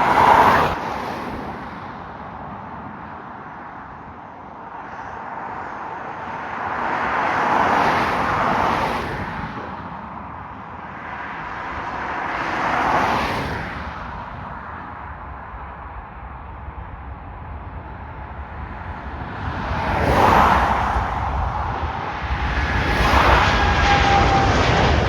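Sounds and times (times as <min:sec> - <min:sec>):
vehicles passing by: 0:00.0 - 0:25.0.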